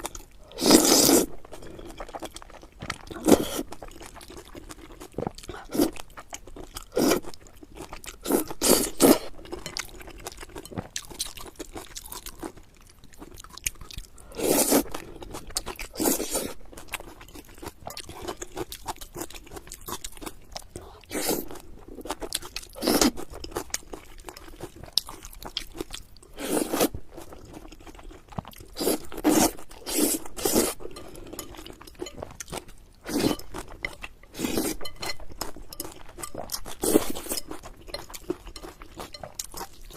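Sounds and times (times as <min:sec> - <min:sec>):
quiet chewing: 0:00.0 - 0:39.9.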